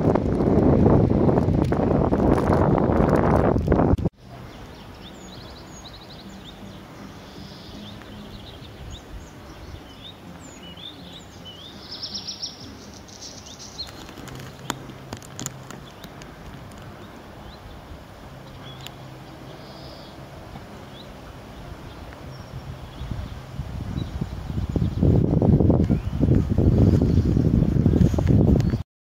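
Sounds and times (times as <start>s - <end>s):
songbirds chirping: 4.1s - 28.8s.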